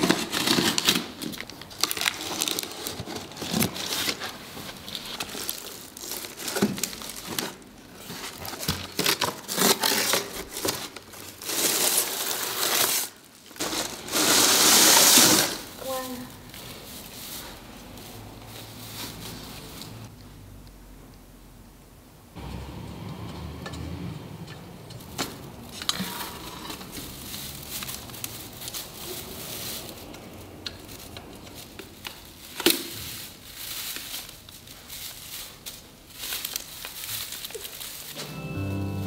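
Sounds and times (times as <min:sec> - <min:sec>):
plastic branches rustling: 0:00.0 - 0:20.1, 0:25.0 - 0:38.6.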